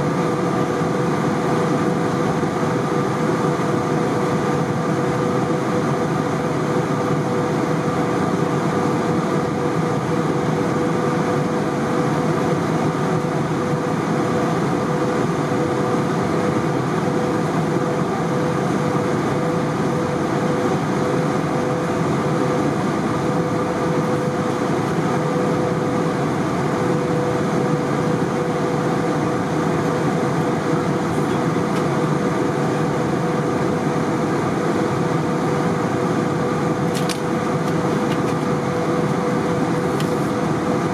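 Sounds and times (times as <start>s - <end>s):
airplane cabin noise: 0.0s - 40.9s.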